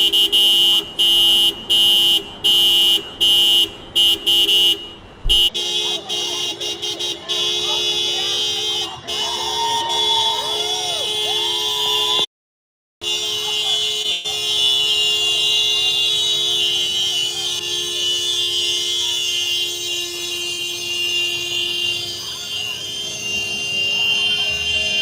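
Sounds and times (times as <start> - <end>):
car horn blaring: 0.0 - 12.3, 13.0 - 25.0.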